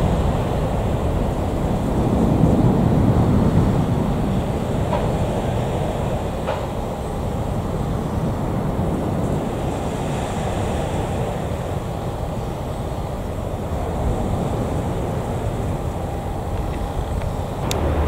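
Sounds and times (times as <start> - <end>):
jet engines rumbling at takeoff: 0.0 - 18.0.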